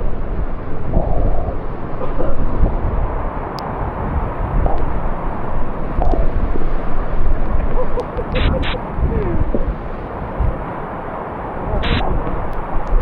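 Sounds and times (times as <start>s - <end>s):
waterfall roaring: 0.6s - 13.0s.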